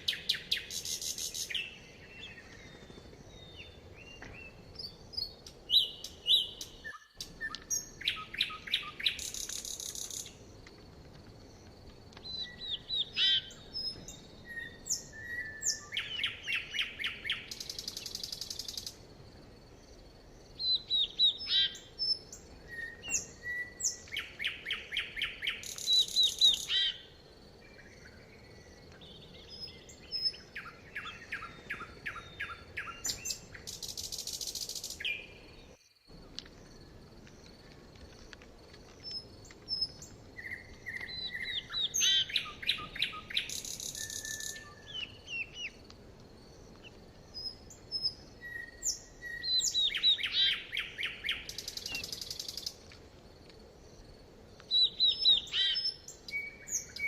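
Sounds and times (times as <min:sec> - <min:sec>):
songbirds singing and calling: 0:00.0 - 0:53.0, 0:53.6 - 0:57.0.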